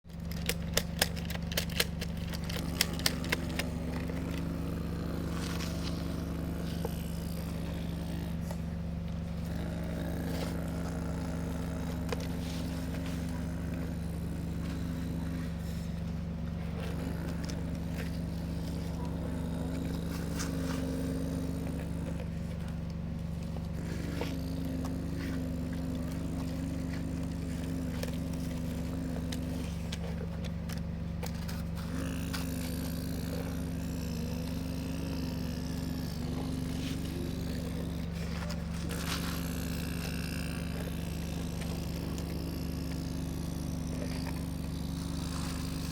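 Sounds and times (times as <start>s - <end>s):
excavator engine humming: 0.0s - 45.9s.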